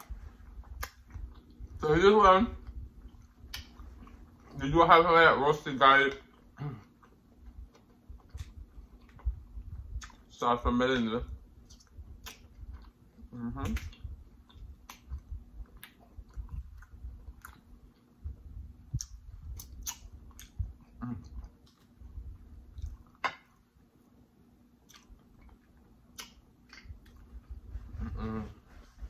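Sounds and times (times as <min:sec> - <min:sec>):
man chewing food: 0:00.0 - 0:01.8, 0:02.5 - 0:04.8, 0:06.1 - 0:10.4, 0:11.3 - 0:29.0.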